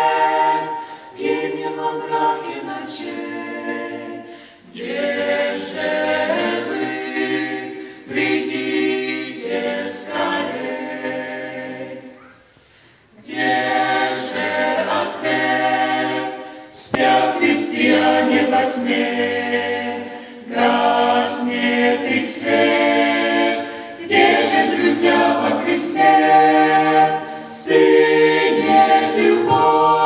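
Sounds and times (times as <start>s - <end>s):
group singing a cappella: 0.0s - 30.0s.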